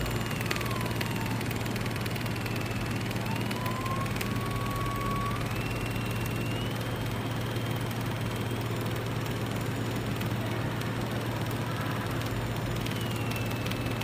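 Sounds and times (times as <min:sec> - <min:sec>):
thin drive whine rising in pitch: 0:00.0 - 0:10.6, 0:11.3 - 0:14.0
welding machine humming: 0:00.0 - 0:14.0.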